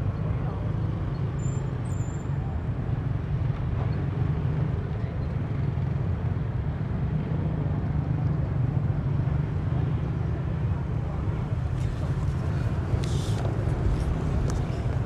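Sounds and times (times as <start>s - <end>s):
distant traffic: 0.0s - 15.0s
low city rumble: 0.0s - 15.0s.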